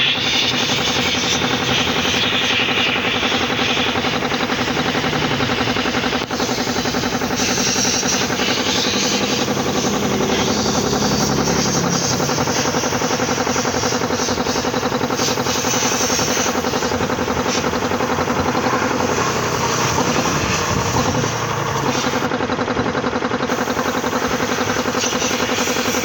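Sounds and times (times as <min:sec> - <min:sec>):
air compressor pump running: 0:00.0 - 0:26.0.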